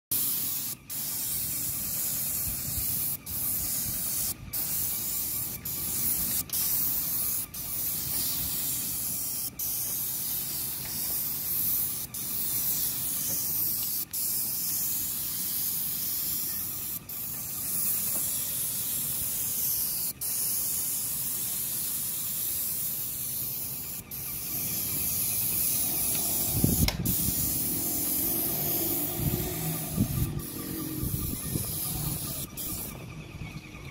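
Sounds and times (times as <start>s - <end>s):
paint spray gun hissing: 0.1s - 33.0s.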